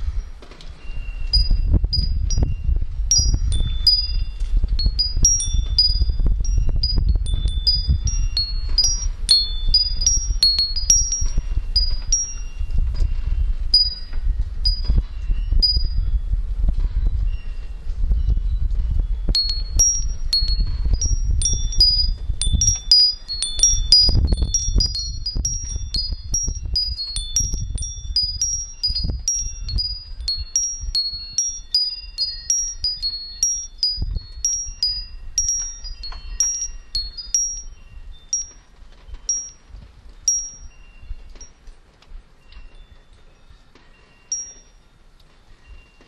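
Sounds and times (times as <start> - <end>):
wind chimes tinkling: 0.0 - 46.0.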